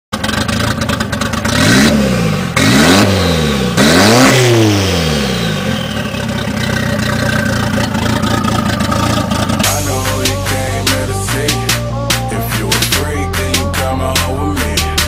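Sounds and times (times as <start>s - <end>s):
car engine revving: 0.2s - 15.0s.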